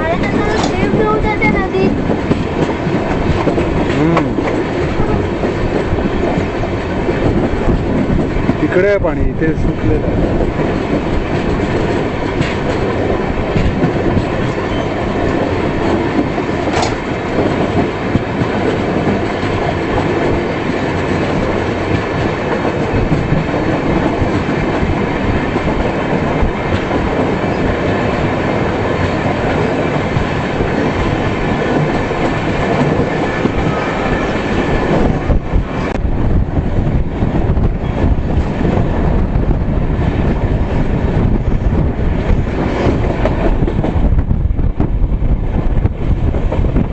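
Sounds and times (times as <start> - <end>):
clickety-clack of rail joints: 0.0 - 46.9
train wheels rumbling on rail: 0.0 - 46.9.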